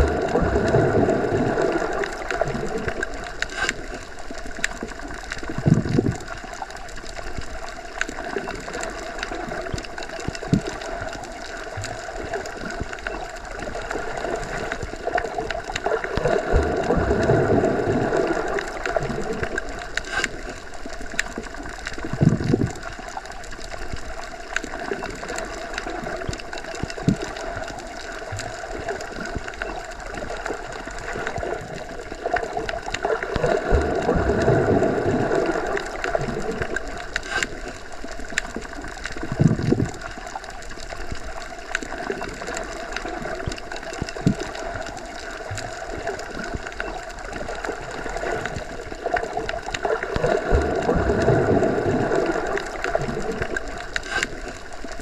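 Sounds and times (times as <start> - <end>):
muffled underwater hum: 0.0 - 55.0.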